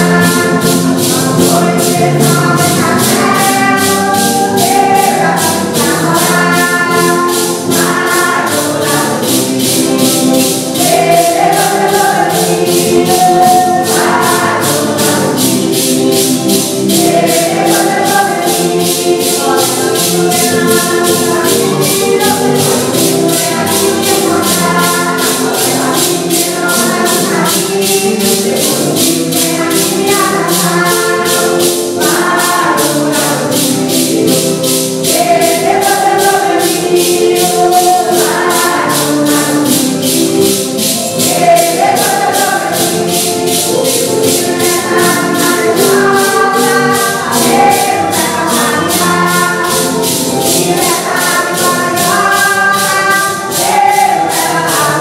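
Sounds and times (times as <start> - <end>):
group singing a hymn in unison: 0.0 - 55.0
maracas shaking: 0.0 - 55.0.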